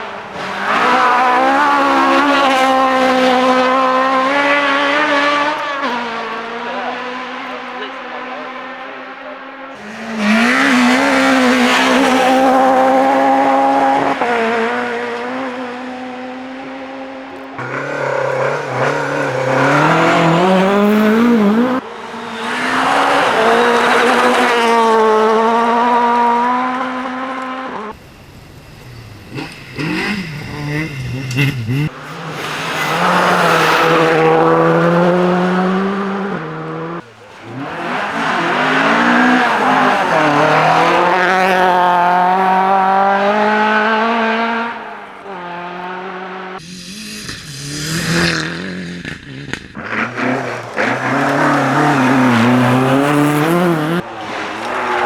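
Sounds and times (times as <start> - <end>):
rally car engine at high revs: 0.0 - 55.0.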